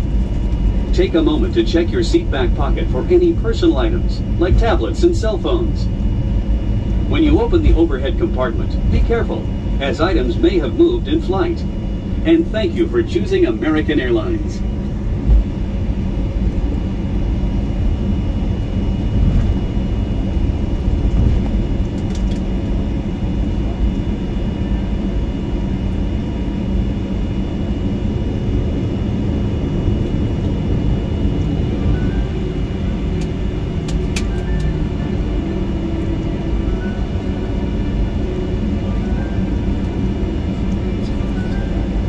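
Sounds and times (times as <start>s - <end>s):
faint high whine: 0.0s - 42.0s
jet engines low rumble: 0.0s - 42.0s.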